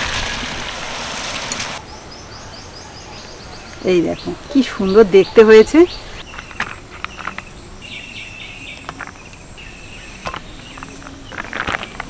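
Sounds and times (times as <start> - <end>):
birds chirping: 1.6 - 12.0
insects trilling: 1.8 - 12.0.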